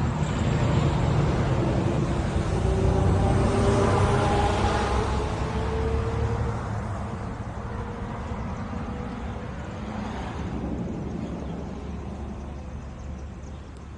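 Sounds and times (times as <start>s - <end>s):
vehicle low rumble: 0.0s - 13.9s.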